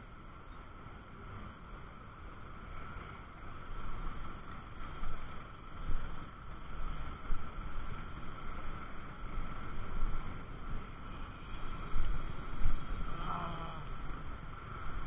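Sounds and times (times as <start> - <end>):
low thumps of wind buffeting: 0.0 - 15.0
wind rumble on microphone: 0.0 - 15.0.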